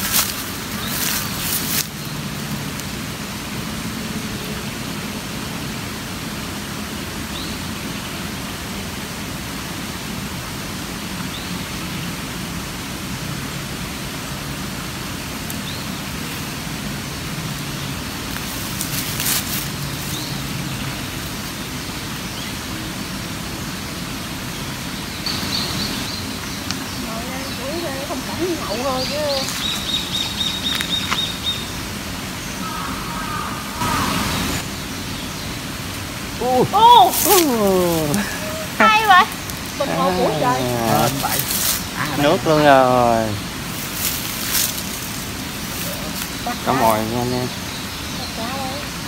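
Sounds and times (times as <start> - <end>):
light rain: 0.0 - 49.0
running water: 0.0 - 49.0.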